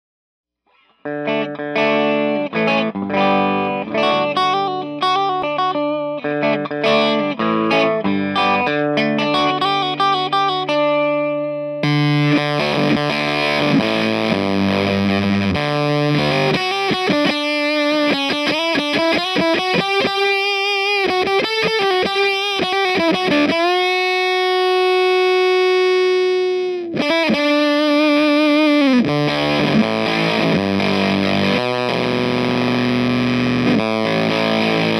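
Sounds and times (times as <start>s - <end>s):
clean electric guitar: 0.7s - 34.9s
distorted electric guitar: 0.7s - 34.9s.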